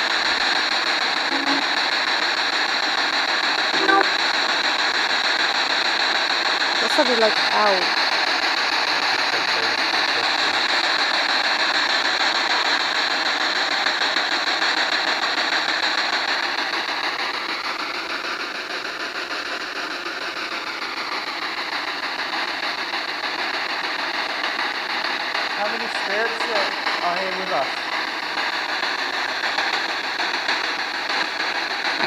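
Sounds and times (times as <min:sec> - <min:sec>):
loud radio static hiss: 0:00.0 - 0:32.0.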